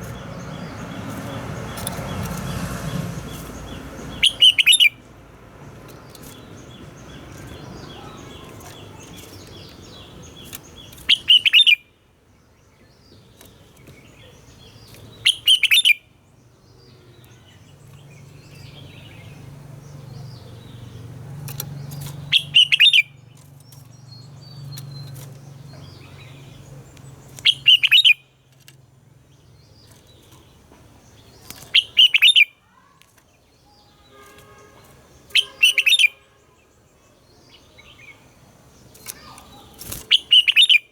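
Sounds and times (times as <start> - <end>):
bird singing loud short phrases: 0.0 - 5.1, 5.9 - 11.8, 13.0 - 16.1, 16.8 - 28.4, 31.0 - 40.9
soft bird chirps: 0.0 - 40.9.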